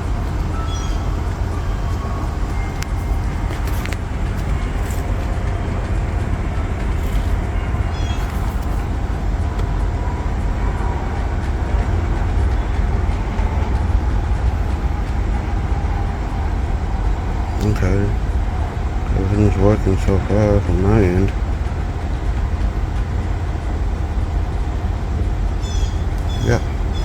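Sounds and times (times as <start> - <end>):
car engine rumble: 0.0 - 27.0.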